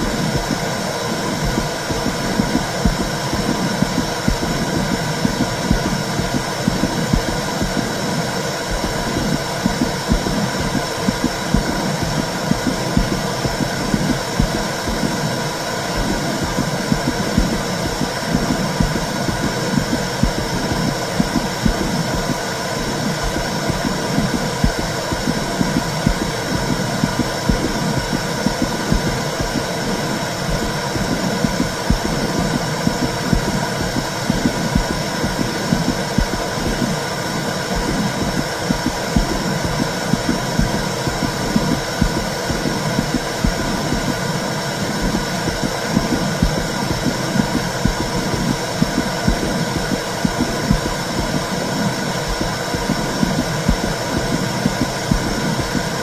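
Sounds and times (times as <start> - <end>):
low heartbeat pulses: 0.0 - 56.0.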